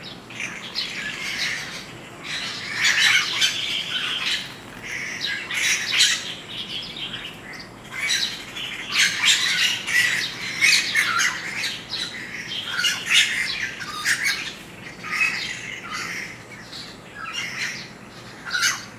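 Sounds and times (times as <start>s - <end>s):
birds calling: 0.0s - 18.9s.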